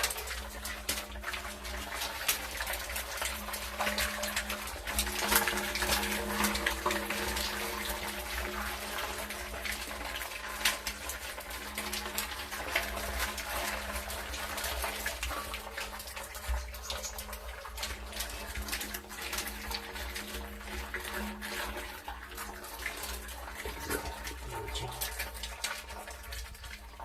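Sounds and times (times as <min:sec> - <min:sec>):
water dripping: 0:00.0 - 0:27.0
water splashing and running: 0:00.0 - 0:27.0.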